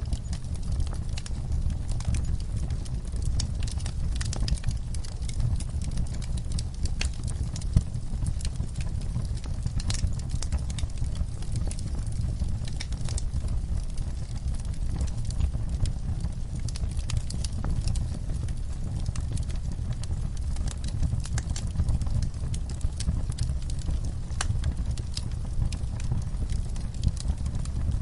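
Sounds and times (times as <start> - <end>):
fire crackling and popping: 0.0 - 28.0
fire flames rumbling: 0.0 - 28.0.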